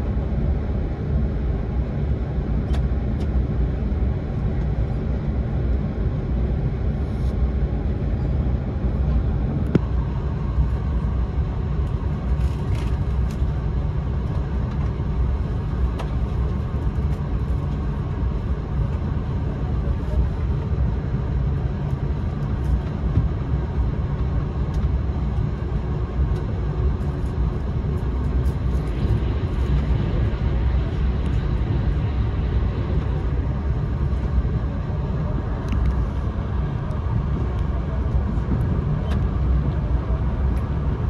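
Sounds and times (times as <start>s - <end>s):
train running rumble: 0.0s - 41.0s.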